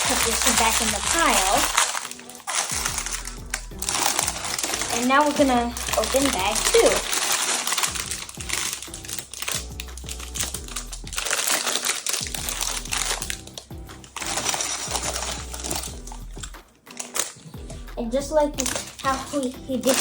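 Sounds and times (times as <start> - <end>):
background music: 0.0 - 20.0
plastic bags crinkling and tearing: 0.0 - 20.0.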